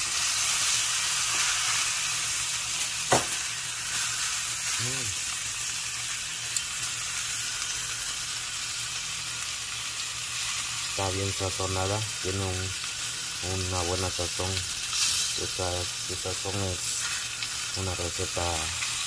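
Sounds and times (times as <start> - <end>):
steak sizzling on a grill pan: 0.0 - 19.0.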